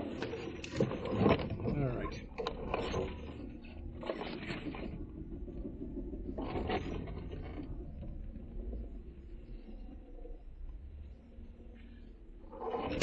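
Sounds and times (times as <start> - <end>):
engine and drivetrain rumble: 0.0 - 13.0.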